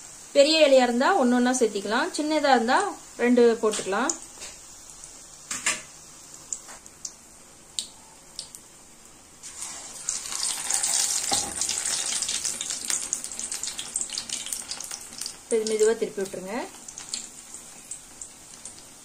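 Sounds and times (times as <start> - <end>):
battered leaves deep-frying in oil: 0.0 - 19.0.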